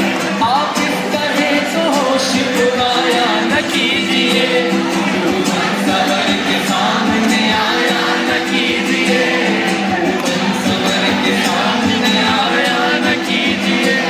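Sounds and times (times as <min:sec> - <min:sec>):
loud live music with singing: 0:00.0 - 0:14.0.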